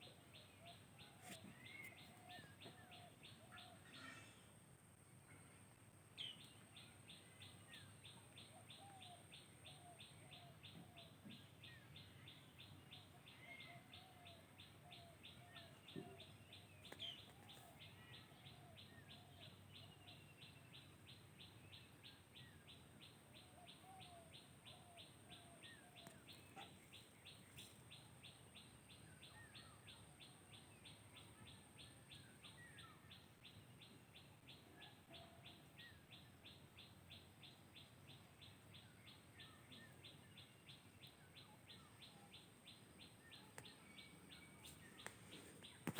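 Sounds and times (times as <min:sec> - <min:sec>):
faint birds chirping: 0:00.0 - 0:45.9.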